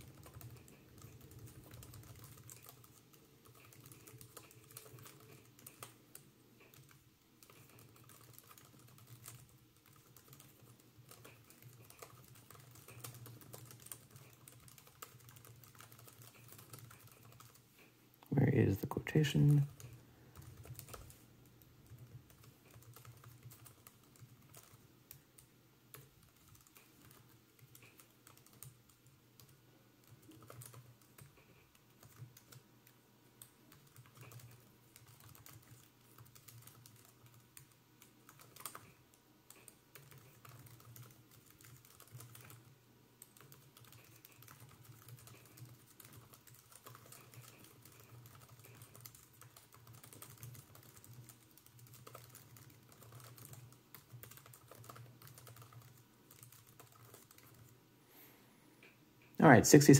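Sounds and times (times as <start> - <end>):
laptop keyboard typing: 0.0 - 57.8.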